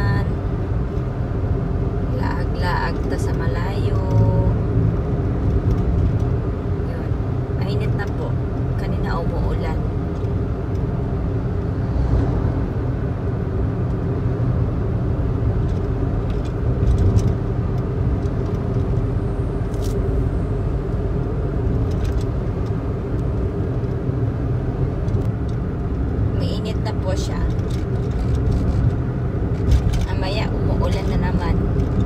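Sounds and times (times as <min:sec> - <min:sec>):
car road and engine drone: 0:00.0 - 0:32.0.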